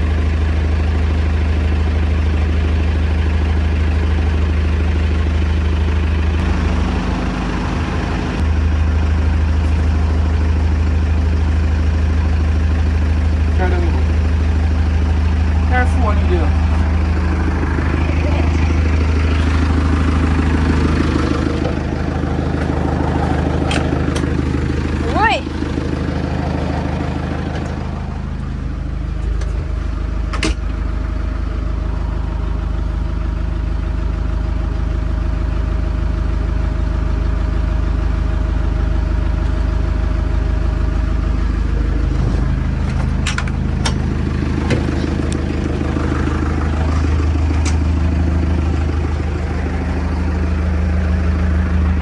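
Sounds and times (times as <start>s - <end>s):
backhoe diesel engine running: 0.0s - 52.0s.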